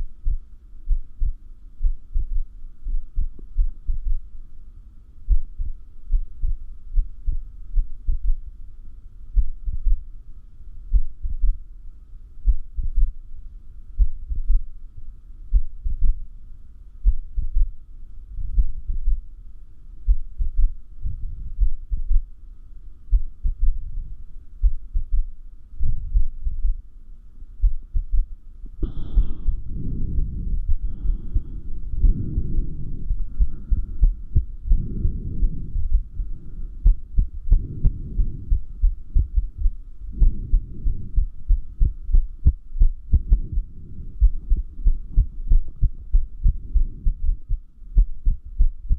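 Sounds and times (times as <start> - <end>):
heartbeat thumps: 0.0 - 4.4, 5.3 - 8.5, 9.4 - 10.1, 10.9 - 11.7, 12.4 - 13.2, 14.0 - 16.3, 17.0 - 17.8, 18.4 - 19.3, 20.1 - 22.3, 23.1 - 26.9, 27.6 - 48.9
faint steady hum: 0.0 - 48.9.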